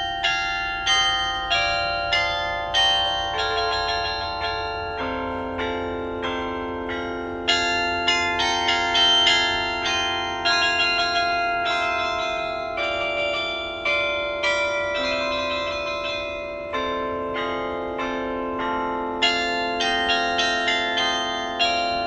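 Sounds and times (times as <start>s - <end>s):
tower bells playing melody: 0.0s - 22.0s.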